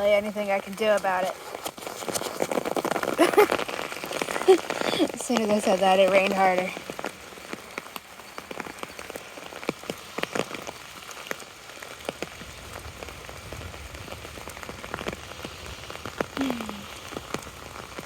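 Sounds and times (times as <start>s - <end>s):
heavy rain drumming on umbrella: 0.0s - 18.0s.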